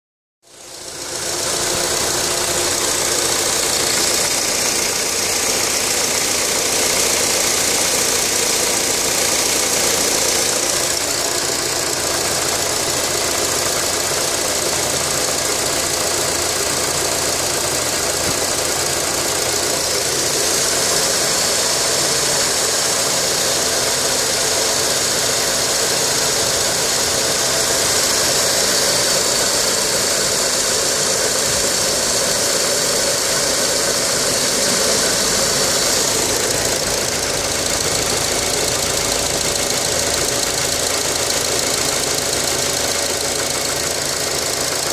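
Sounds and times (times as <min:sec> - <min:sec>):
car engine running: 0:00.4 - 0:44.9.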